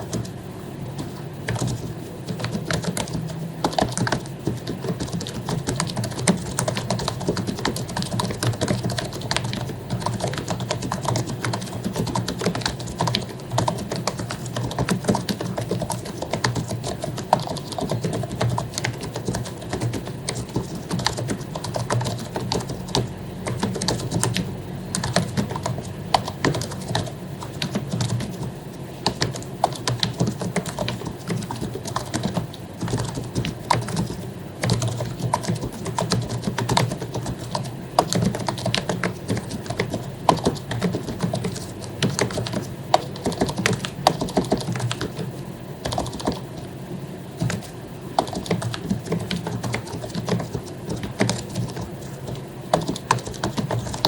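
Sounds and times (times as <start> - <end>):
fast typing on keyboard: 0.0 - 54.0
low steady hum: 0.0 - 54.0.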